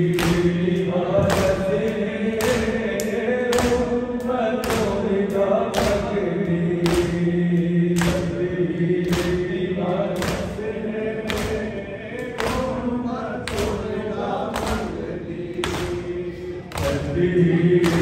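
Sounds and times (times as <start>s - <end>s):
men chanting a lament: 0.0s - 18.0s.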